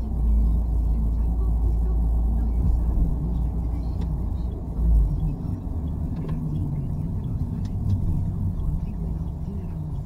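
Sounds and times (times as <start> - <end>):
car engine and tyre noise: 0.0 - 10.0.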